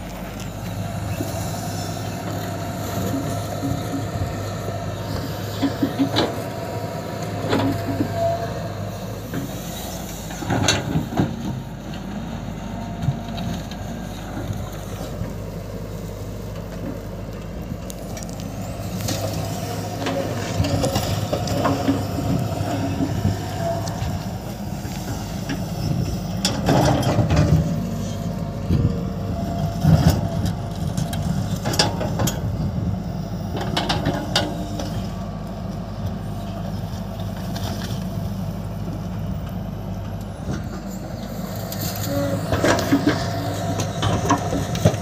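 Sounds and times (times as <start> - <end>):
diesel engines running: 0.0 - 45.0.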